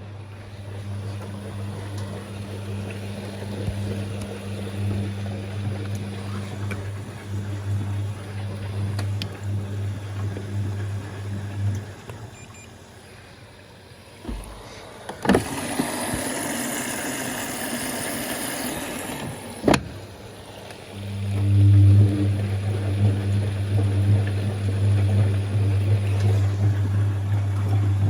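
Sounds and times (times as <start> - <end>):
drain pump humming: 0.0 - 28.0
water rushing into machine: 0.0 - 28.0.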